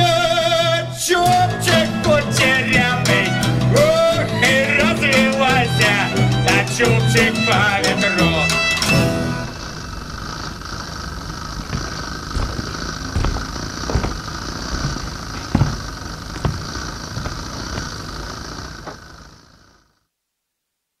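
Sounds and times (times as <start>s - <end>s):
film projector whirring: 1.3s - 19.9s.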